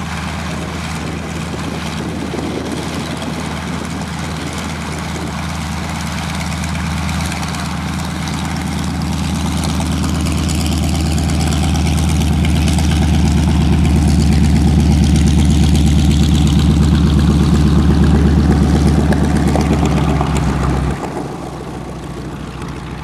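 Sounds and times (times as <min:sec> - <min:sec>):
aircraft radial engine running: 0:00.0 - 0:23.0.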